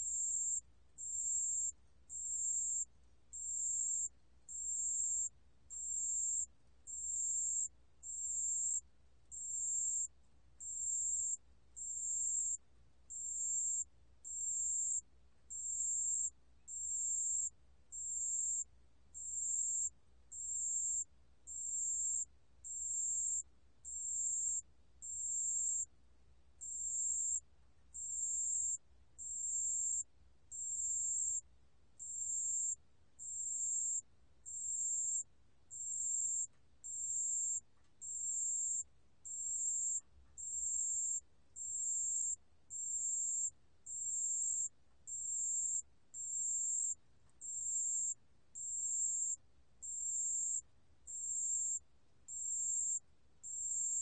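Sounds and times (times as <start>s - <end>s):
cricket chirping: 0.0s - 25.9s, 26.6s - 54.0s.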